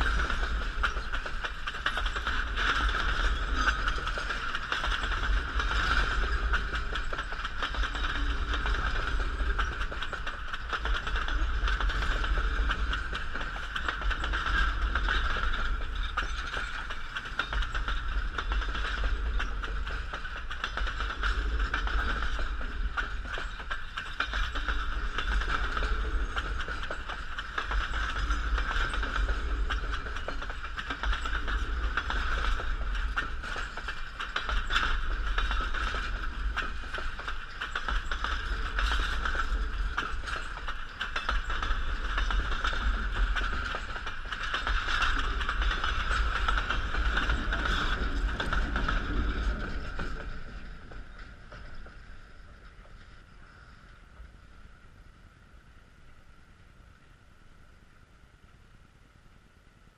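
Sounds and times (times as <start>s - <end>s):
wheels clacking over rail joints: 0.0s - 54.8s
railroad cars rumbling past: 0.0s - 57.1s.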